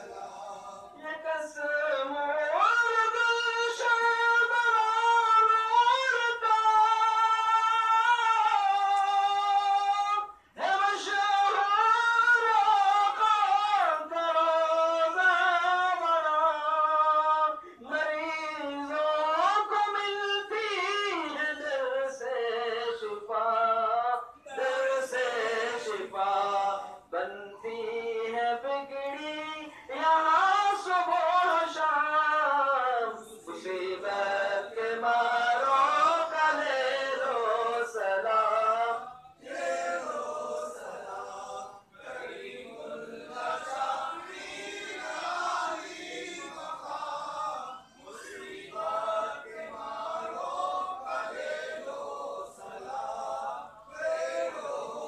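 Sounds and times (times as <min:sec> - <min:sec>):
men chanting together: 0:00.0 - 0:01.0, 0:02.6 - 0:18.2, 0:24.4 - 0:27.3, 0:28.1 - 0:55.0.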